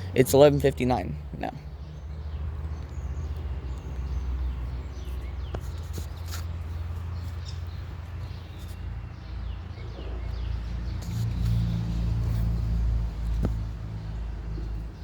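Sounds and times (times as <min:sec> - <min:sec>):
small birds chirping: 0:00.0 - 0:15.0
vehicle engine rumble: 0:00.0 - 0:15.0.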